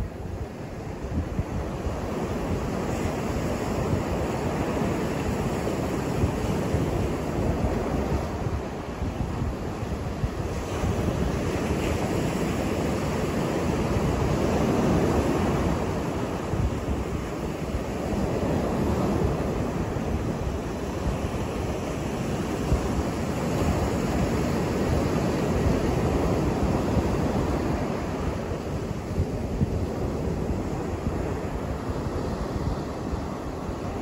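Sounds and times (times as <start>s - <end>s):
ocean waves breaking on beach: 0.0s - 34.0s.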